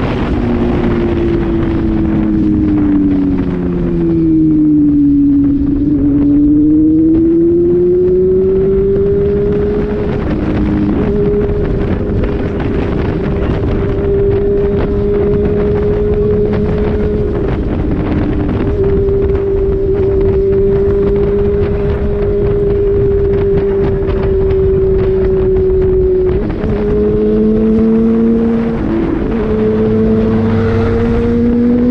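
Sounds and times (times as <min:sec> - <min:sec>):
motorcycle engine running: 0:00.0 - 0:31.9
wind noise on microphone: 0:00.0 - 0:31.9.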